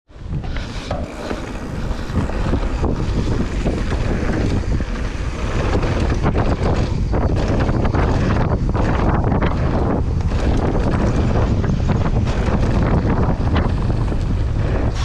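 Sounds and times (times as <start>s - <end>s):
wind buffeting microphone: 0.1s - 15.0s
bike knocks and rattles: 0.2s - 15.0s.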